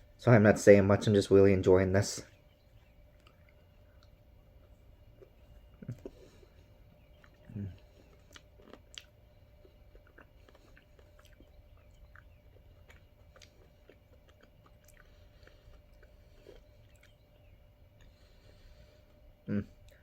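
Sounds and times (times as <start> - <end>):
person chewing: 3.1 - 20.0.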